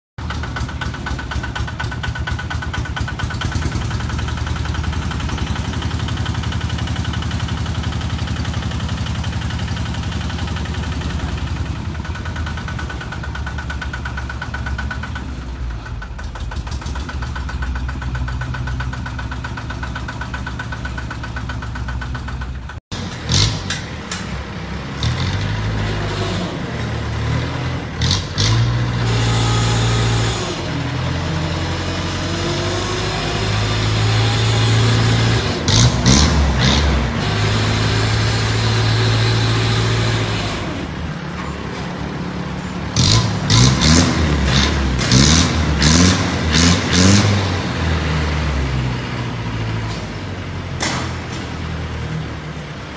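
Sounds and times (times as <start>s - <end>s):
truck engine running: 0.2s - 52.9s.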